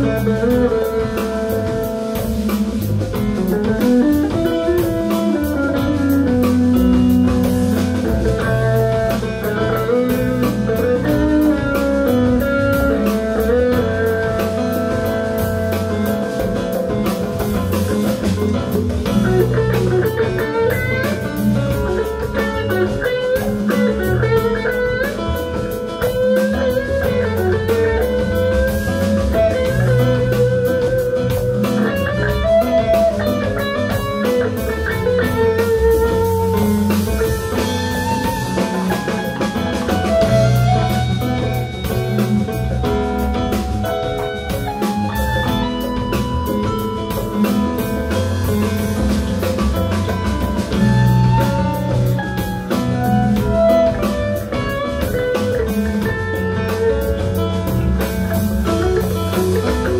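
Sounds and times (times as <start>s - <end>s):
bass: 0.0s - 59.9s
drum kit beat: 0.0s - 59.9s
electric guitar: 0.0s - 59.9s.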